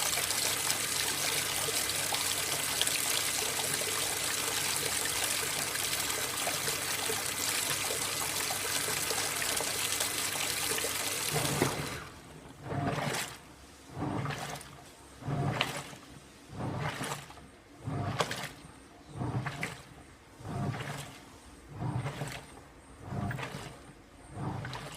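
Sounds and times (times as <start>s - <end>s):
washing machine churning and sloshing: 0.0s - 24.9s
water rushing into washing machine: 0.0s - 24.9s.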